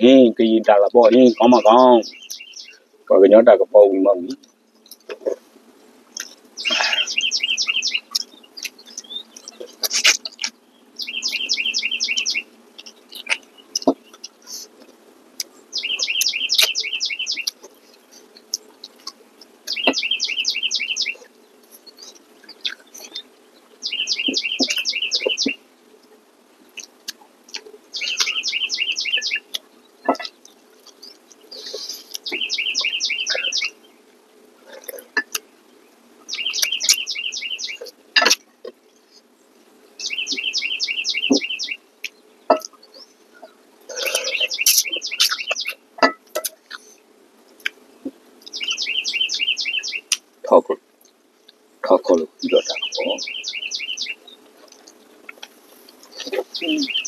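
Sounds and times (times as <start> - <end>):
songbird trilling: 0.0 - 5.4, 6.1 - 14.7, 15.4 - 25.6, 27.9 - 33.8, 36.3 - 38.8, 40.0 - 46.9, 48.4 - 50.7, 51.9 - 57.0.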